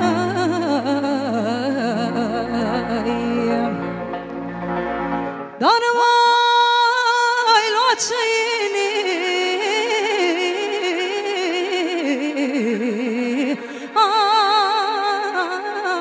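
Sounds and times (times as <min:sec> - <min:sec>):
woman singing with vibrato: 0:00.0 - 0:04.1, 0:05.6 - 0:16.0.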